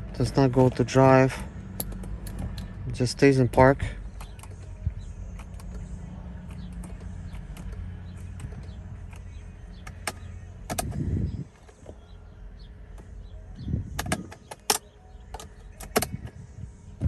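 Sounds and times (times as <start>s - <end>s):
low rumble: 0.0s - 14.3s
car interior hum: 0.0s - 17.0s.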